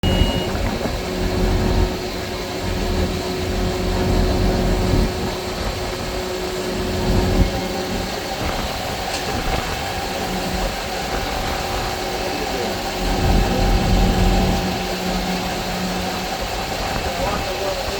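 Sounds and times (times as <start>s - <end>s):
construction machinery running: 0.0s - 17.9s.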